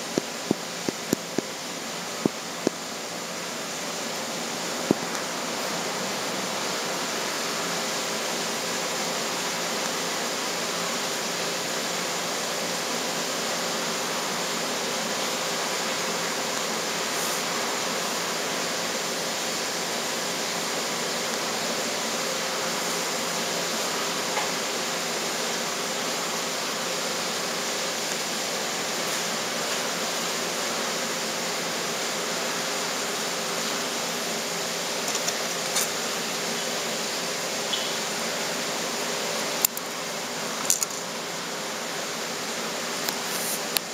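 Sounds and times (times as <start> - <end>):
steady hiss: 0.0 - 43.9.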